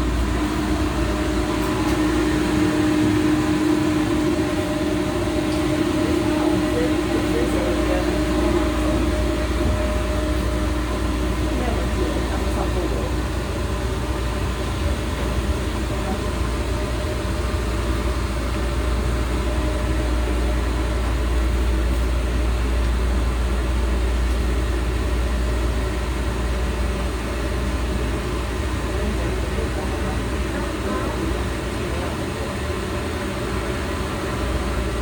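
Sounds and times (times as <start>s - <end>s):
train running: 0.0s - 35.0s.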